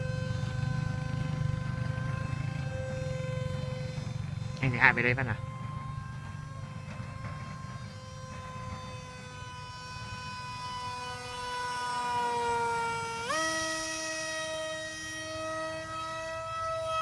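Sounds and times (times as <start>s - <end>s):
small motor whining: 0.0s - 17.0s.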